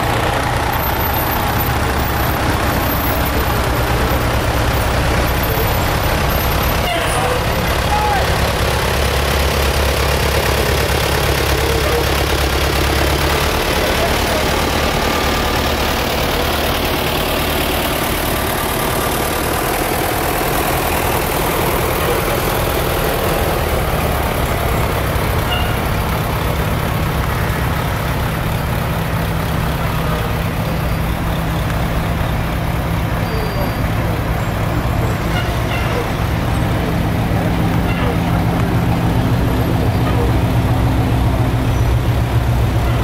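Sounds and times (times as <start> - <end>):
fire truck engines running slowly: 0.0 - 43.0
tractor engine humming: 0.0 - 43.0.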